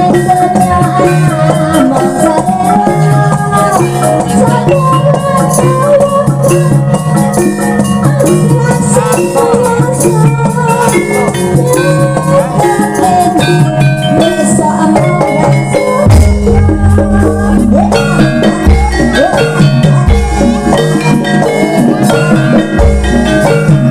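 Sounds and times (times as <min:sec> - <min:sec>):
gamelan ensemble music: 0:00.0 - 0:23.9.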